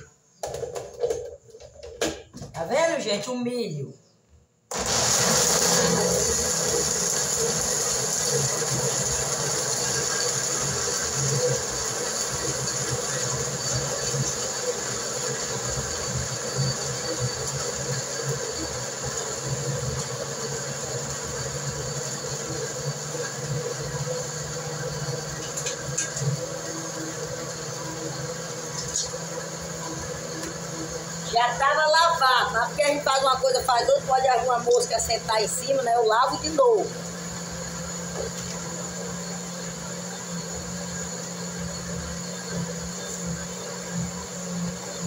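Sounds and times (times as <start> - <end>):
electric blender grinding: 4.7 - 45.0.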